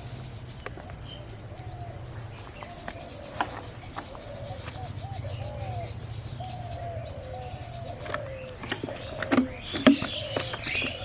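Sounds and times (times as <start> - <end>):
birds chirping: 0.0 - 11.0
falling bird call: 1.7 - 11.0.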